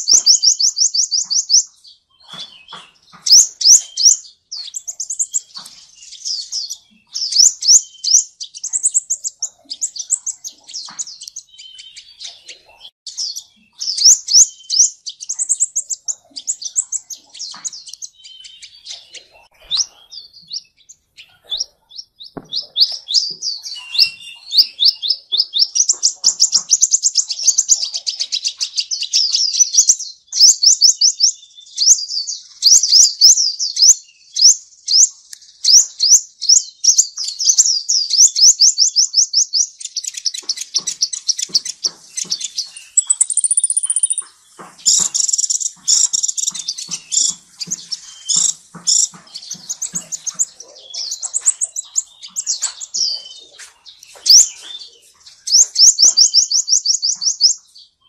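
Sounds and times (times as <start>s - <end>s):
sunbird calling high trills: 0.0s - 58.0s.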